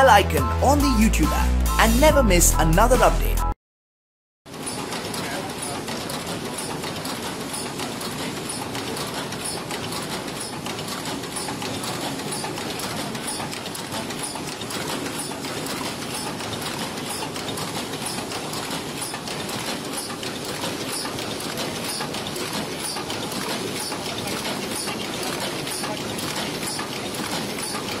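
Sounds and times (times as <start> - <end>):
paper cup machine clattering: 4.5 - 28.0
sharp high machine tick: 4.5 - 28.0.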